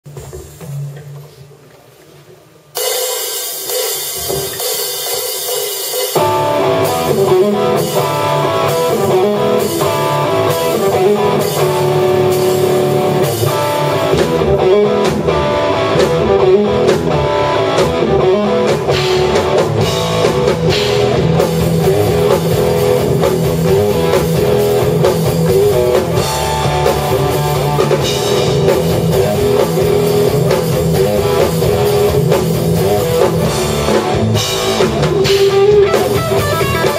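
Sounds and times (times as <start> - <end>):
rock band playing: 2.8 - 36.9
electric guitar: 5.9 - 36.9.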